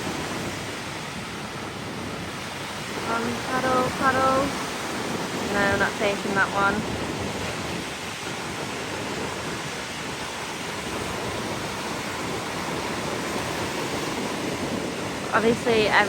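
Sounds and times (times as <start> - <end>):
ocean surf breaking on a beach: 0.0 - 16.0.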